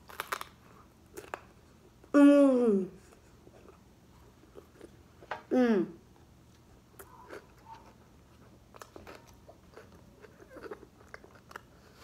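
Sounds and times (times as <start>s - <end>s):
person chewing food: 0.0s - 2.0s, 3.1s - 5.3s, 6.4s - 12.0s.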